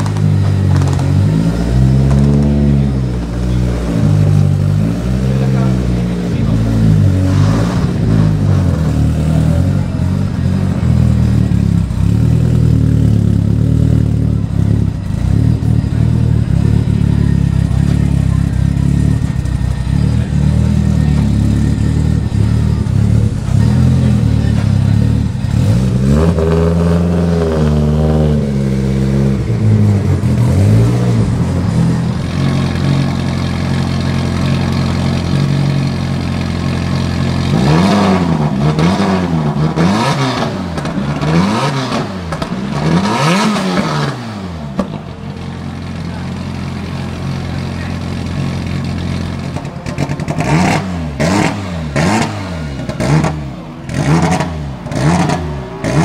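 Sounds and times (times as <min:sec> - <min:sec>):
car engine idling steadily: 0:00.0 - 0:26.0, 0:28.4 - 0:39.7, 0:43.5 - 0:56.0
car engine idling unevenly: 0:00.0 - 0:56.0
engine throttle blips: 0:00.0 - 0:56.0.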